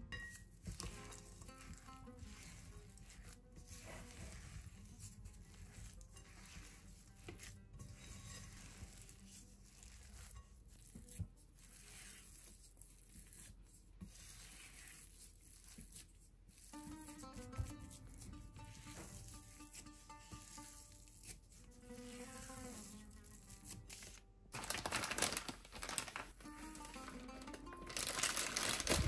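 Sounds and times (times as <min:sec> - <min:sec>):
spatula scraping dough in bowl: 0:00.2 - 0:24.2.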